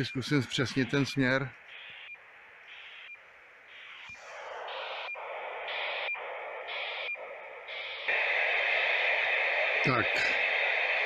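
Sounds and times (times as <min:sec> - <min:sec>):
hissy data buzz: 0:00.0 - 0:11.0.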